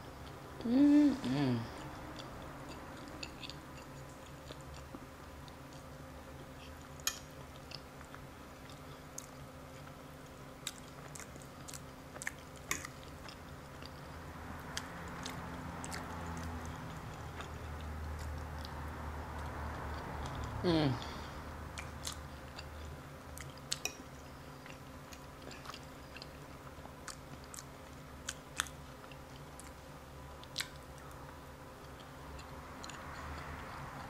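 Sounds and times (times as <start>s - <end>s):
chewing and mouth sounds: 1.6s - 21.1s, 21.7s - 34.0s.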